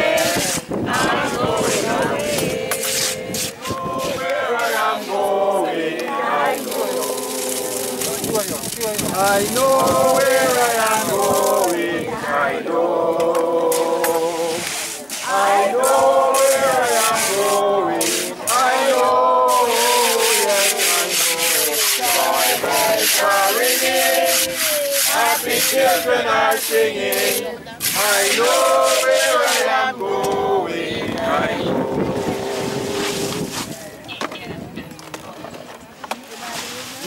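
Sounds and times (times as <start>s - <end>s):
voices singing a hymn: 0.0s - 8.4s, 9.0s - 33.8s
rough scratching rasping noise: 0.0s - 12.6s, 13.2s - 33.9s.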